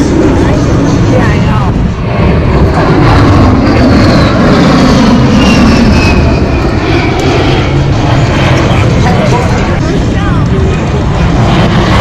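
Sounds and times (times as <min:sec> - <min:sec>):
aircraft flying past: 0:00.0 - 0:12.0
high engine whine: 0:00.0 - 0:12.0.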